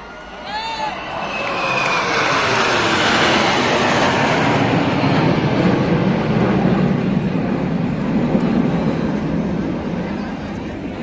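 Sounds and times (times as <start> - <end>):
military jets roaring overhead: 0.0 - 11.0.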